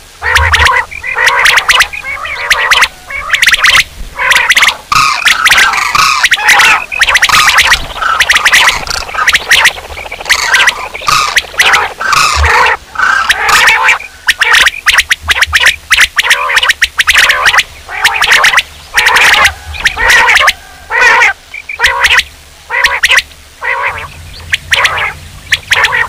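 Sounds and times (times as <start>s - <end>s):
quail calling: 0.2s - 26.0s.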